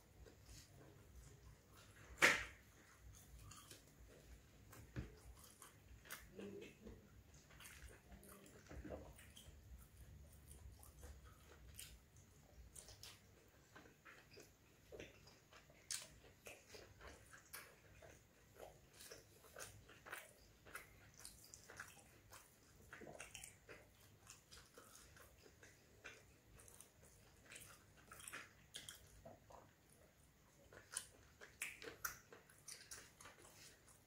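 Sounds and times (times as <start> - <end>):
chewing with wet smacks: 0.0 - 34.0.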